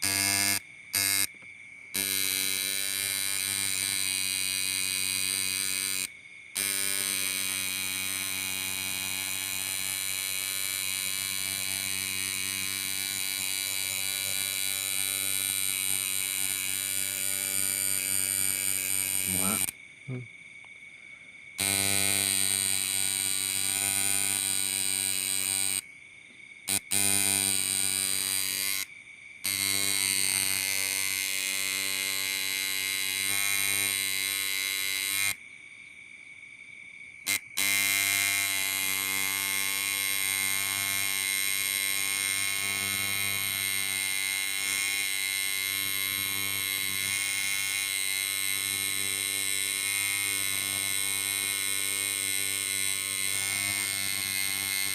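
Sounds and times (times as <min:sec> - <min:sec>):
tattoo machine buzzing: 0:00.0 - 0:19.8, 0:21.6 - 0:25.9, 0:26.7 - 0:35.4, 0:37.2 - 0:54.9.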